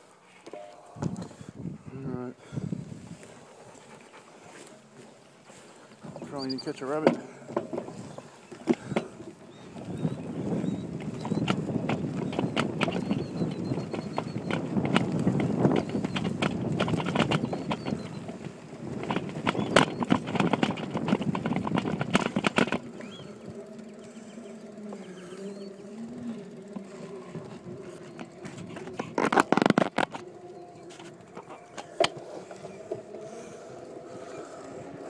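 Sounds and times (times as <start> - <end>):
bike rattling over rough ground: 0.7 - 35.0.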